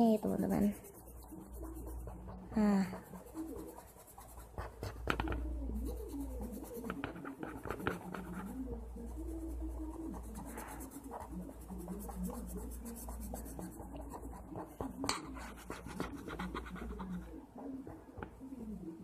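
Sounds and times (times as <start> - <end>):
marker scribbling on paper: 0.0 - 18.3.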